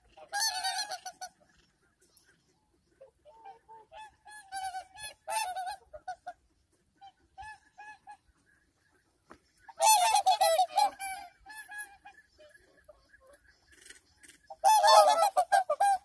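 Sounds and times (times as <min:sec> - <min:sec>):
swans honking: 0:00.0 - 0:16.0.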